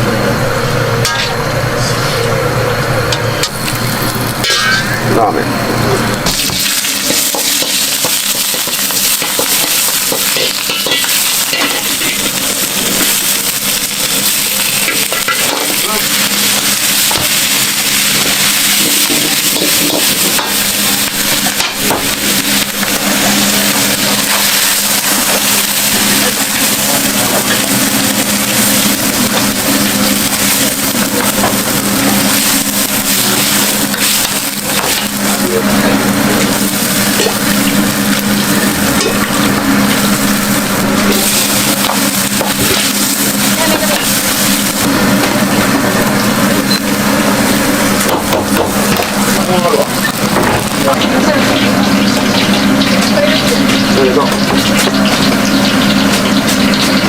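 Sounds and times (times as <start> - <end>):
food sizzling on a griddle: 6.2 - 57.0.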